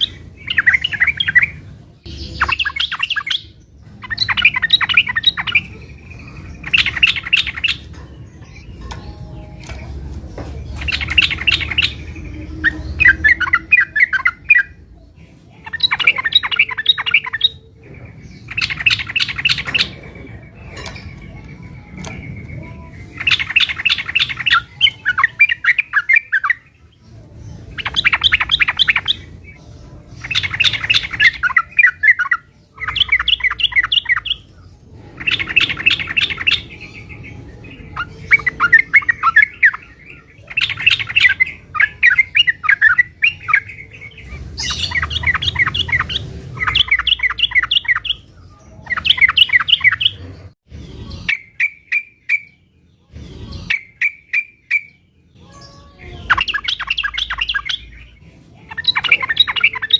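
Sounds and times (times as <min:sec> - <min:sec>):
bulbul chattering song: 0:00.0 - 0:59.9.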